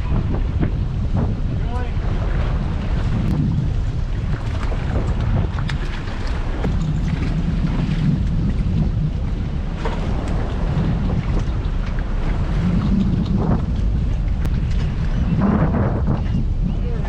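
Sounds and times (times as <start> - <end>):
low rumble of boat and water: 0.0 - 17.0
wind buffeting microphone: 0.0 - 17.0.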